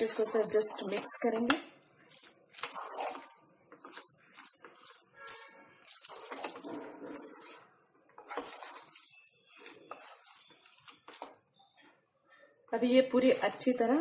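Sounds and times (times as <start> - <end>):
spatula stirring pasta in pot: 0.0 - 11.5
wet stirring and scraping: 0.0 - 11.6.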